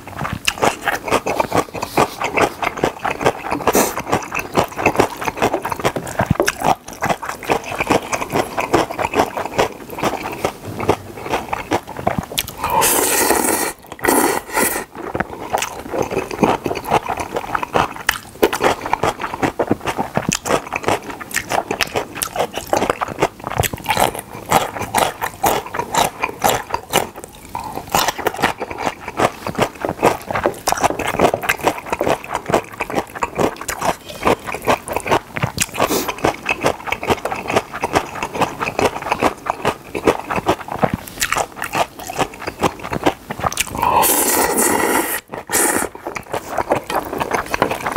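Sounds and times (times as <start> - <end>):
noodles slurped: 0.0 - 47.9
wet chewing and mouth smacking: 0.0 - 47.9.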